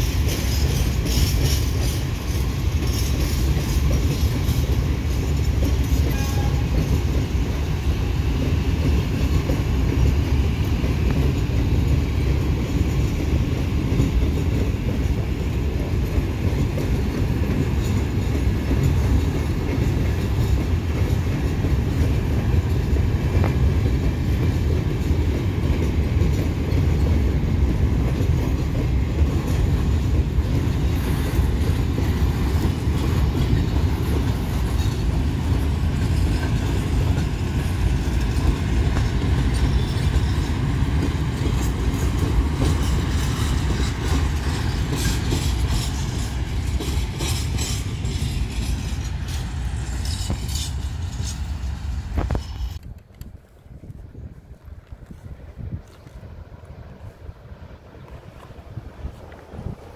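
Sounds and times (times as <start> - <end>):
freight train rumbling past: 0.0 - 59.9
train wheels clicking: 0.0 - 59.9.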